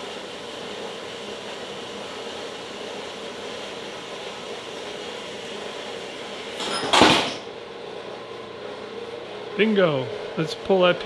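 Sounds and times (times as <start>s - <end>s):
metal-cutting bandsaw running: 0.0s - 11.0s.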